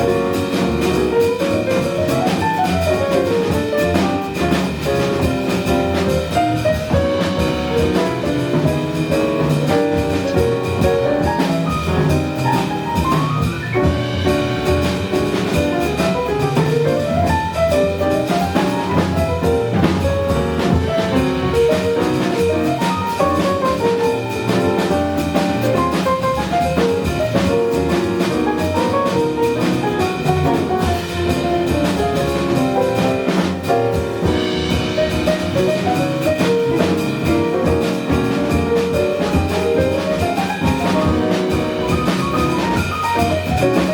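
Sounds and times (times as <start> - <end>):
bass: 0.0 - 43.9
drum kit: 0.0 - 43.9
jazz band playing: 0.0 - 43.9
lead instrument melody: 0.0 - 43.9
piano: 0.0 - 43.9.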